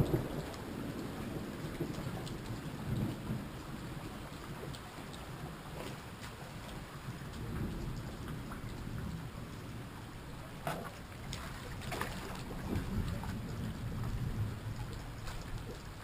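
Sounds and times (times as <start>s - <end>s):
sharp taps of raindrops: 0.0s - 9.6s, 10.4s - 16.0s
low thunder rumble: 0.0s - 16.0s
steady rain: 0.0s - 16.0s.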